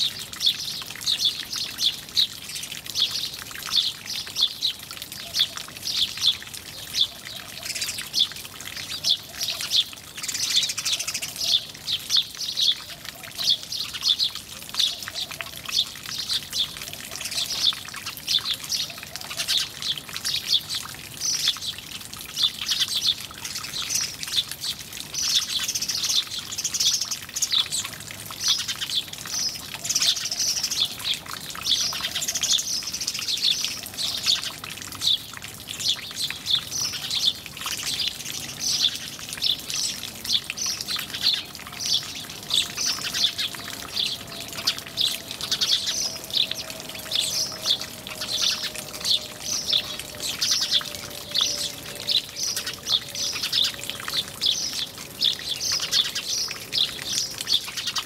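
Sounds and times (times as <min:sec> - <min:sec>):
sparrows chirping: 0:00.1 - 0:58.0.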